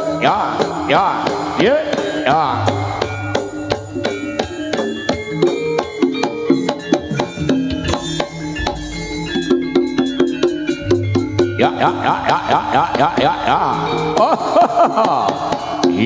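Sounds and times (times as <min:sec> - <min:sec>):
drums: 0:00.0 - 0:16.0
gongs and metallophones ringing: 0:00.0 - 0:16.0.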